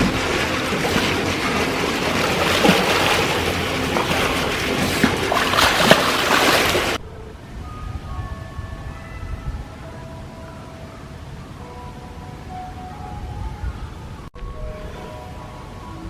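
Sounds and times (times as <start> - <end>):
soft music notes: 0.0 - 16.0.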